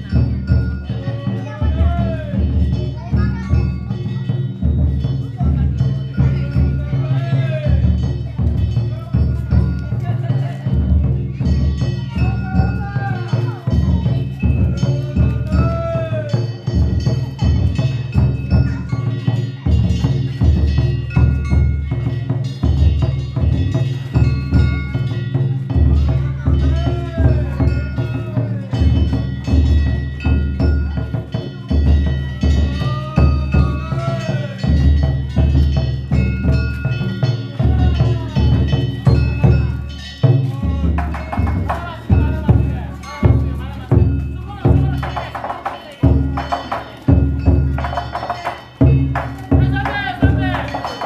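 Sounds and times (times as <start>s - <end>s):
bronze gongs clanging: 0.0s - 51.0s
large taiko drum beating: 0.0s - 51.0s.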